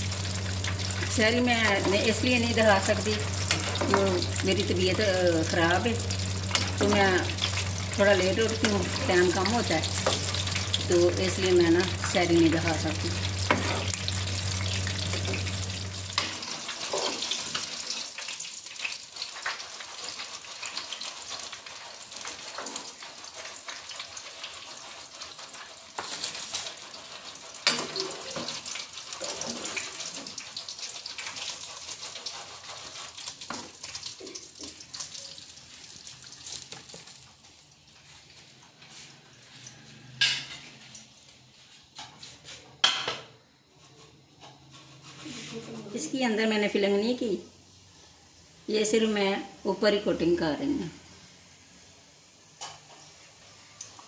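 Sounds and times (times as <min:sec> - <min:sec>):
hot oil sizzling: 0:00.0 - 0:43.2, 0:44.4 - 0:54.0.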